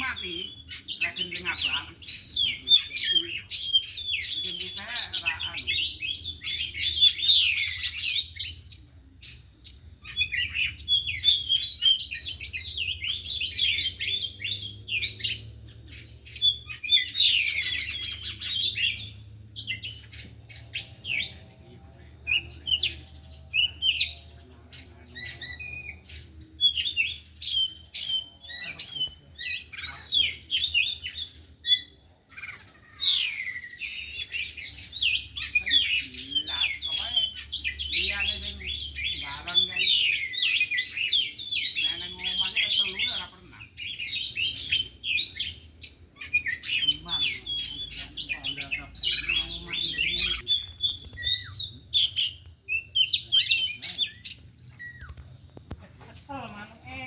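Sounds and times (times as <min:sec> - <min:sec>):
birds singing warbled phrases: 0:00.0 - 0:57.0.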